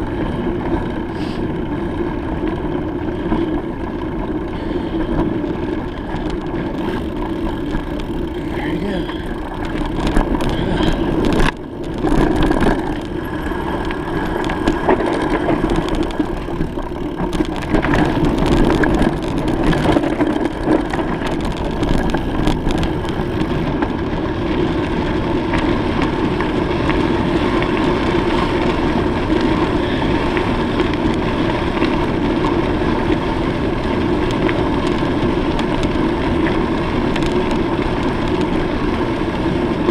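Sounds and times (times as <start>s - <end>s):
bicycle clicks and rattles: 0.0s - 39.9s
wind and road noise: 0.0s - 39.9s.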